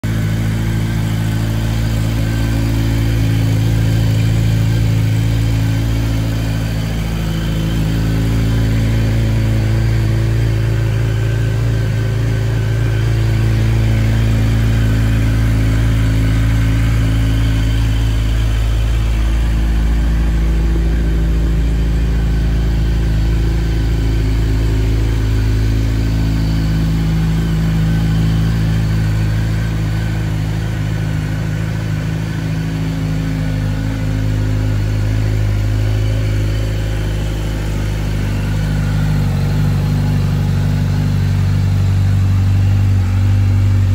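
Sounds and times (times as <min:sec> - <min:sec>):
motorcycle engine idling: 0:00.0 - 0:43.9.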